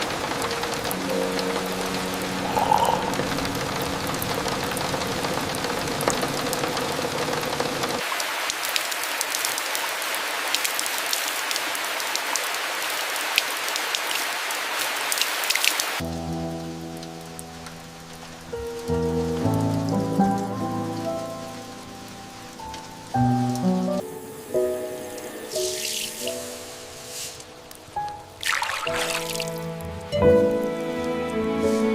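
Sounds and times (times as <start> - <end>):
rain drops tapping: 0.0 - 31.2.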